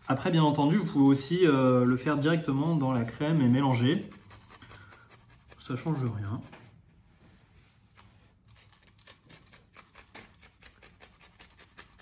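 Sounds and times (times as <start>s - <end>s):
bean grated on a fine rasp: 0.0s - 6.6s, 8.5s - 12.0s.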